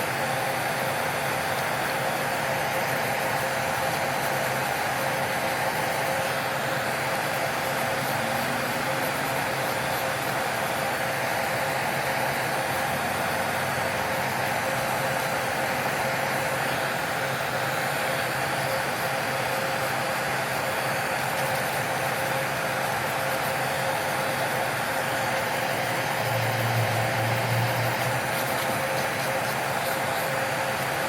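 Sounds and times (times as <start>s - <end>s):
small electric motor whine: 0.0s - 31.0s.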